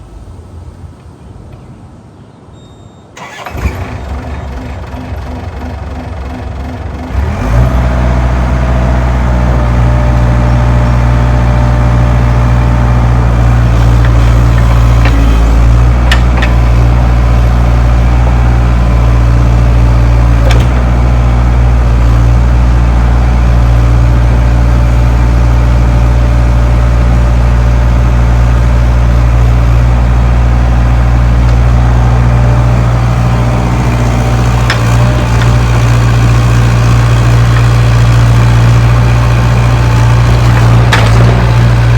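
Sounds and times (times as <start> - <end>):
excavator diesel engine running: 3.2 - 41.9.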